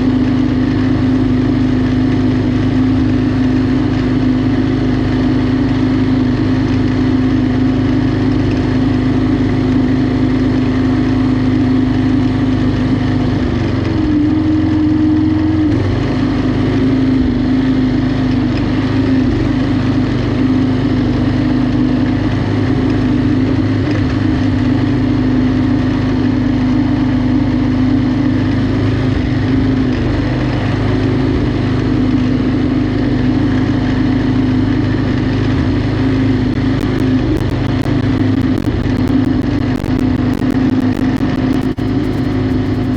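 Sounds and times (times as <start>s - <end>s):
lawnmower engine running: 0.0s - 42.9s.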